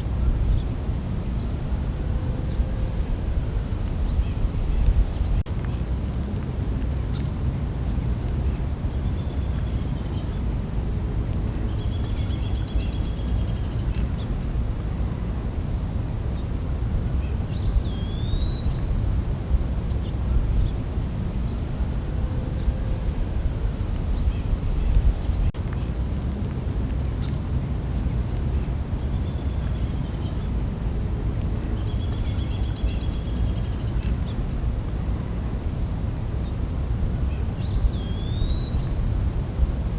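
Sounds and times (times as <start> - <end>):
constant low rumble: 0.0 - 39.9
crickets chirping: 0.0 - 39.9.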